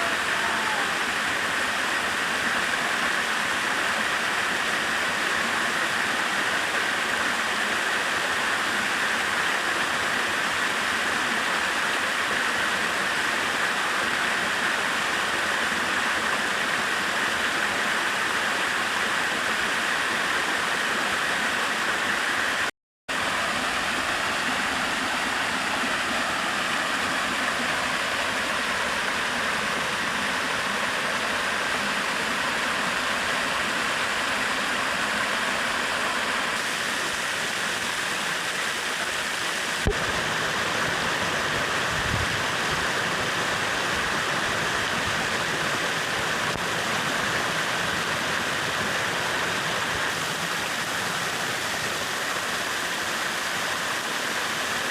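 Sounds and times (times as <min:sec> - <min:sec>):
stream and waterfall rushing: 0:00.0 - 0:54.9.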